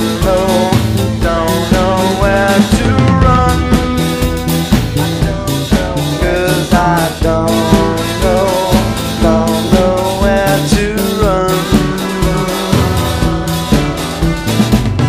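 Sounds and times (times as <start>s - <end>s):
drum kit beat: 0.0s - 15.0s
electric guitar: 0.0s - 15.0s
indie rock song: 0.0s - 15.0s.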